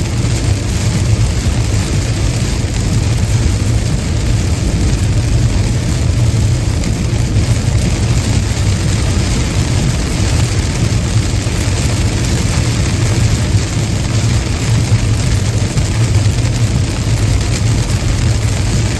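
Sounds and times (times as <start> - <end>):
car road rumble: 0.0 - 18.9
tyres hissing on wet road: 0.0 - 18.9.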